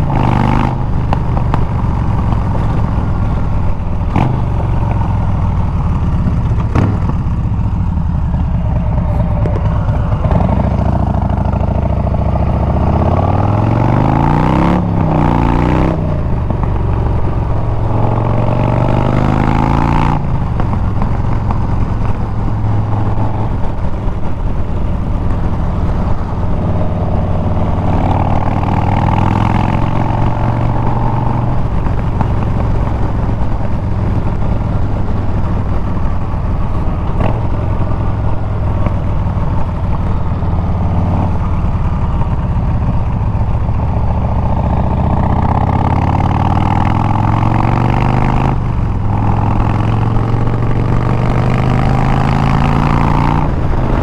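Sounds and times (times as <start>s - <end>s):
motorcycle exhaust accelerating: 0.0s - 54.0s.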